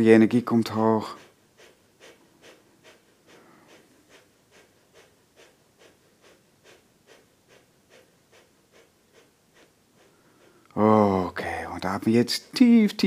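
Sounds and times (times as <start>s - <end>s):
quick rapid breaths: 0.7s - 12.8s.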